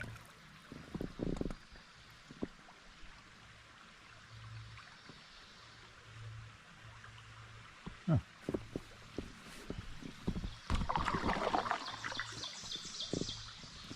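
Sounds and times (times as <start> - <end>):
water trickling and lapping: 0.0 - 13.9.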